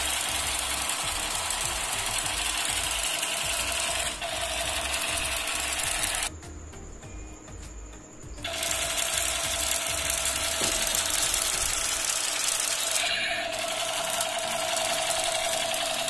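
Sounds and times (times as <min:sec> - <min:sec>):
toy machine gun rattle: 0:00.0 - 0:06.3, 0:08.4 - 0:16.0.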